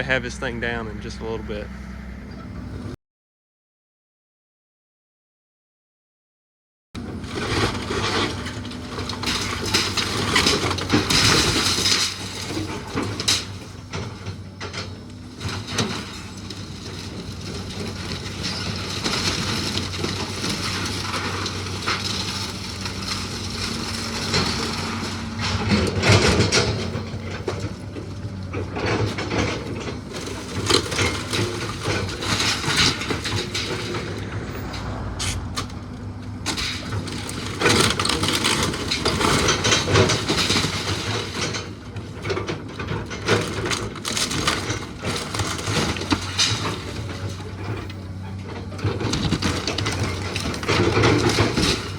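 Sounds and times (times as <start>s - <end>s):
timbers cracking and crashing: 7.0s - 51.9s.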